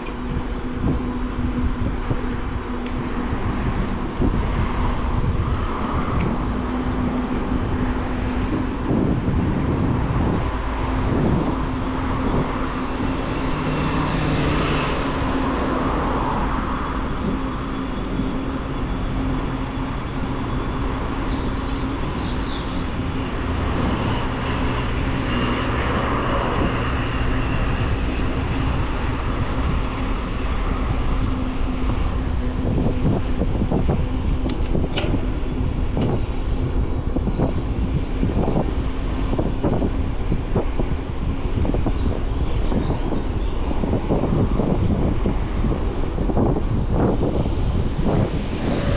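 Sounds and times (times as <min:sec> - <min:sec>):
bicycle riding noise: 0:00.0 - 0:48.9.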